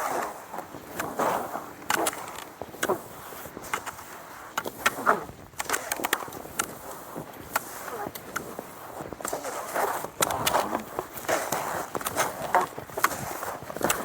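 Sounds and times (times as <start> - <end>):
skis sliding over snow: 0.0 - 14.0.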